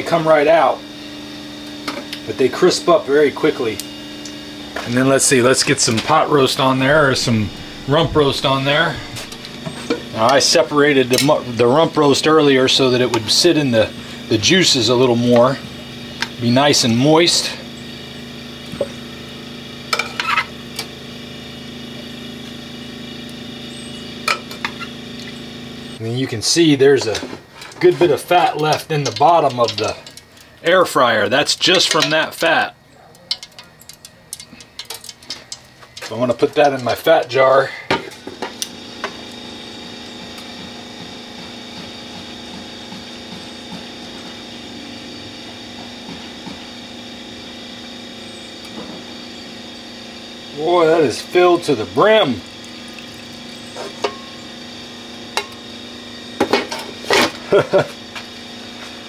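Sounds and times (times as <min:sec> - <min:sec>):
low appliance hum: 0:00.0 - 0:59.0.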